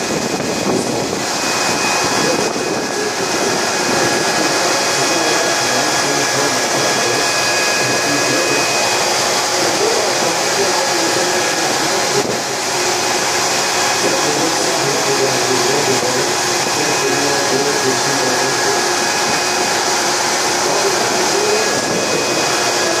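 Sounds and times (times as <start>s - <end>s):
blower noise: 0.0s - 23.0s
boiler burner roaring: 0.0s - 23.0s.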